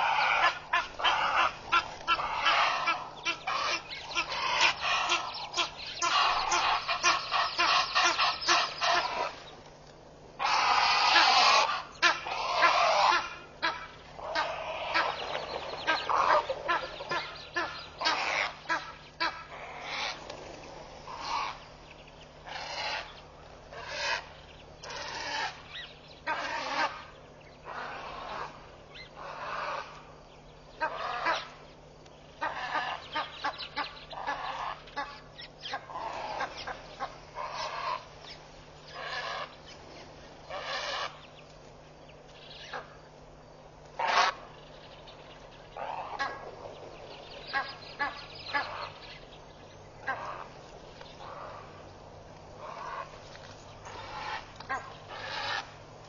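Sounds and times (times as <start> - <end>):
geese honking: 0.0 - 9.6, 10.4 - 20.4, 21.0 - 31.6, 32.3 - 41.4, 42.3 - 43.0, 43.8 - 56.0
faint low hum: 0.0 - 56.0.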